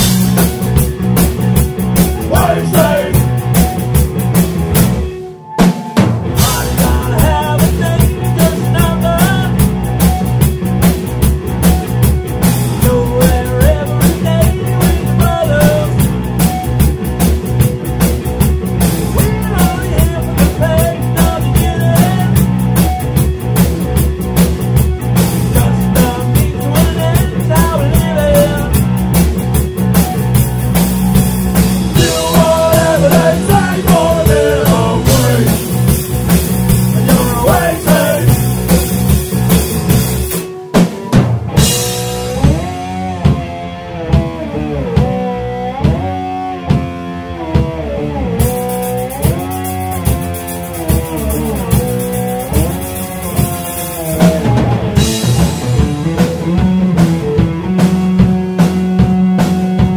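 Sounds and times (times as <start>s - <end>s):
amplified guitar line: 0.0s - 59.9s
drum kit beat with cymbals: 0.0s - 59.9s.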